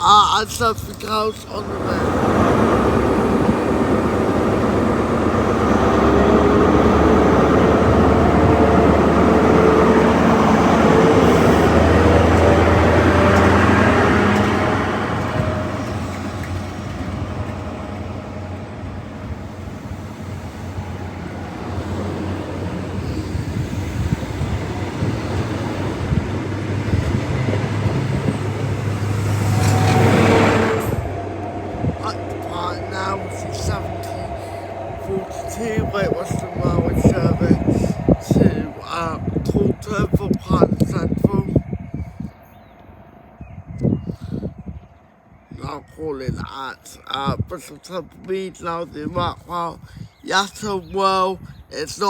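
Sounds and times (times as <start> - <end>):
another train: 0.0 - 52.0
train engine hum: 0.0 - 52.0
train passing by: 0.0 - 52.0.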